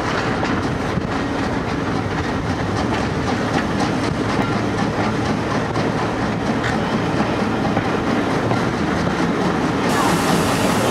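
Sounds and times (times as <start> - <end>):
regular wheel clatter: 0.0 - 10.0
train wheels running on rails: 0.0 - 10.9.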